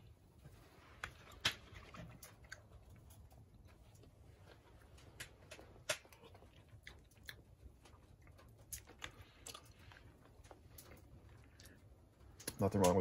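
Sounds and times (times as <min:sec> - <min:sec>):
person chewing: 0:00.0 - 0:12.6.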